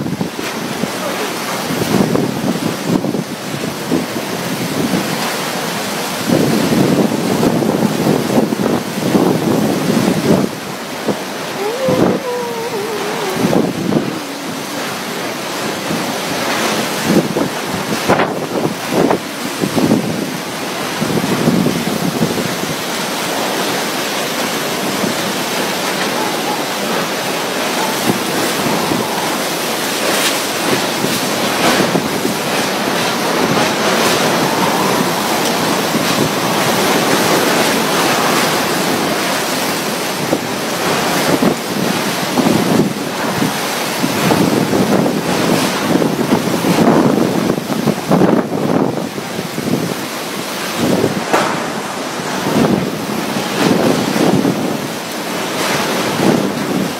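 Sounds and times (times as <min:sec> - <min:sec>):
strong wind buffeting microphone: 0:00.0 - 0:56.9.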